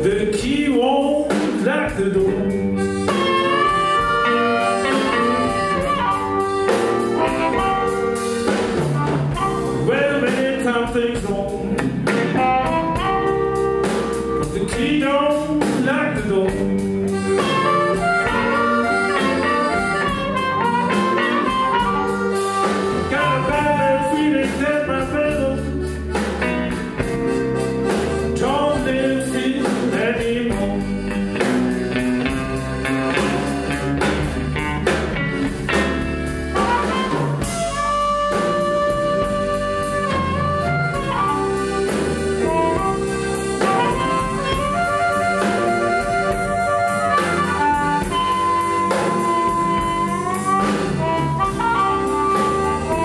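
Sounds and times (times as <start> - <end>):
blues band playing: 0.0 - 53.0
harmonica bending notes: 1.9 - 53.0.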